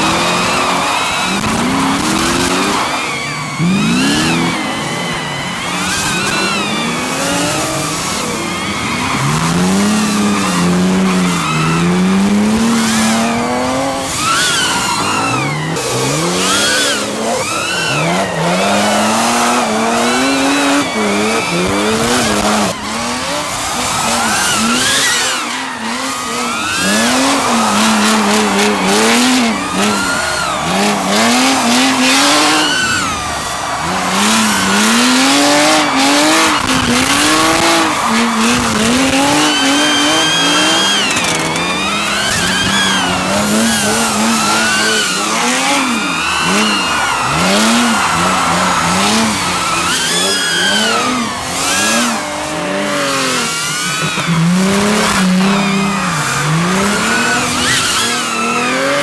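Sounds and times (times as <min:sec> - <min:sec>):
car engines revving: 0:00.0 - 0:59.0
tyre squeal: 0:00.0 - 0:59.0.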